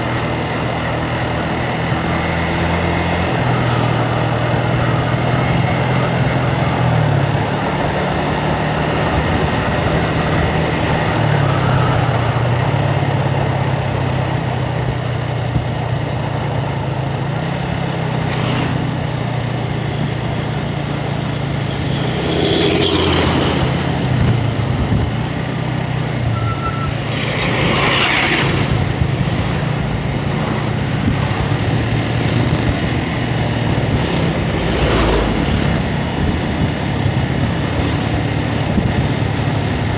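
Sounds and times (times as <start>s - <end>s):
motorcycle engine running: 0.0s - 27.7s, 28.4s - 39.9s
road and wind noise: 0.0s - 39.9s.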